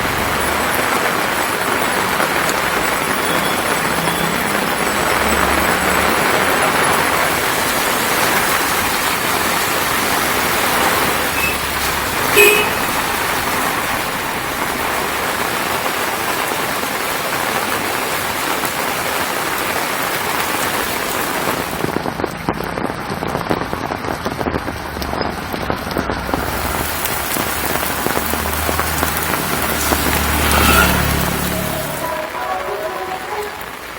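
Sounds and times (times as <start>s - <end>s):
low rumble of vehicles: 0.0s - 17.4s, 19.2s - 33.9s
heavy rain falling: 0.0s - 33.9s.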